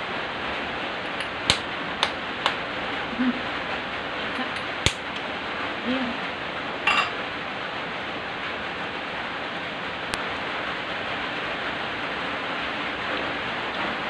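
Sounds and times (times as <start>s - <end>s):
steady hissing noise: 0.0s - 14.0s.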